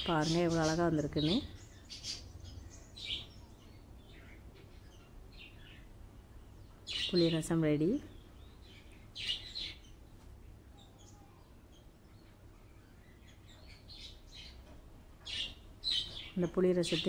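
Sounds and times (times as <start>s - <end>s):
faint low hum: 0.0s - 17.0s
small birds chirping: 0.0s - 17.0s.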